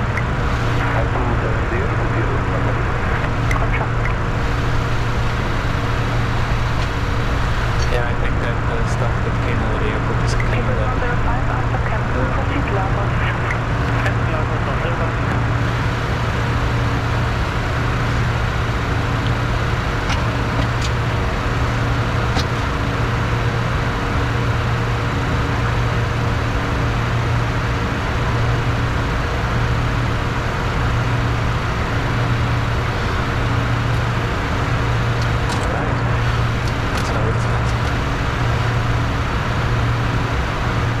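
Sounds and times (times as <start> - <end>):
cockpit air and engine rush: 0.0 - 41.0
low pulsing hum: 0.0 - 41.0.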